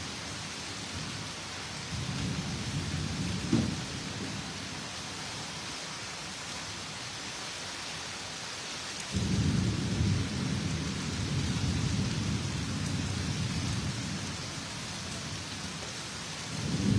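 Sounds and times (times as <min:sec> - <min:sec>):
heavy rain on metal roof: 0:00.0 - 0:16.9.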